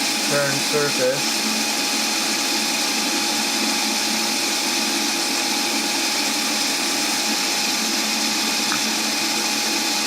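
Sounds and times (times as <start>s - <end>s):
lathe motor humming: 0.0s - 10.0s.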